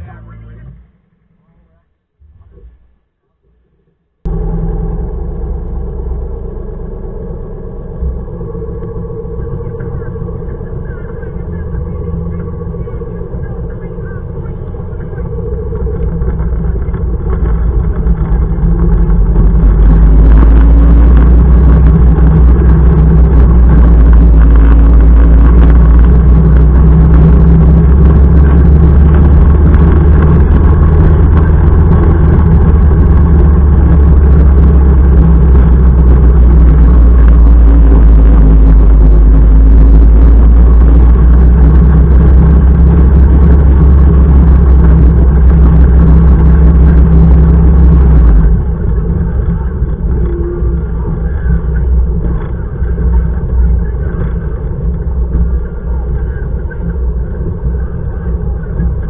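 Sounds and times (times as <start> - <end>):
motorcycle engine drone: 0.0 - 59.0
rushing wind: 4.2 - 59.0.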